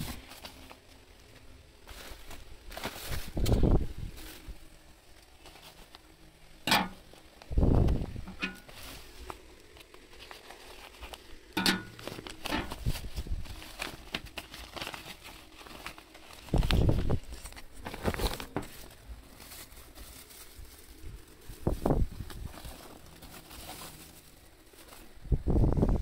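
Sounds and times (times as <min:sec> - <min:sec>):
paper crinkling and rustling: 0:00.0 - 0:25.7.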